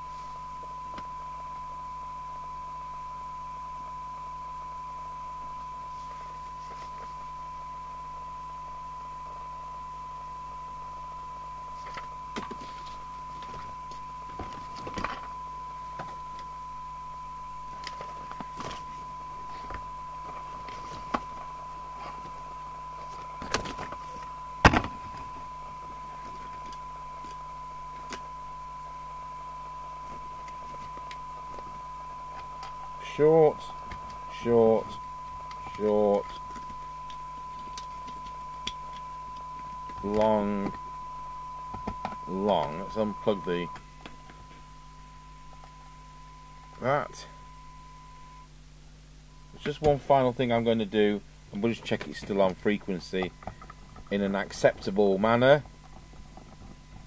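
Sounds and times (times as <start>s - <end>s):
steady high test tone: 0.0s - 48.6s, 49.2s - 53.4s, 54.1s - 55.7s
faint mains hum: 0.0s - 57.0s.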